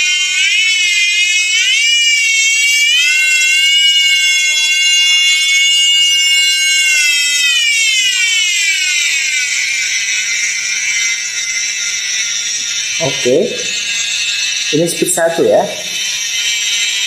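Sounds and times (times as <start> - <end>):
multi-tool electric whine: 0.0 - 17.0.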